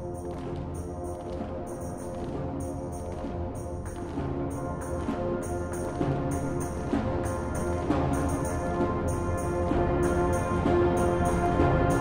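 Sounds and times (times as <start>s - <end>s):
high metallic percussion beat: 0.0s - 12.0s.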